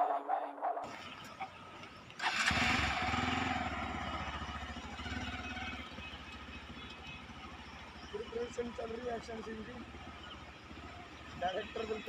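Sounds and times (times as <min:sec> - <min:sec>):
motorcycle engine starting and idling: 0:00.8 - 0:12.0.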